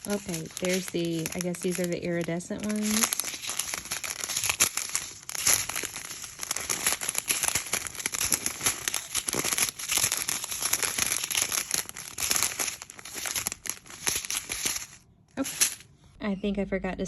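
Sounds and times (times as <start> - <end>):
plastic bags crinkling: 0.0 - 15.8.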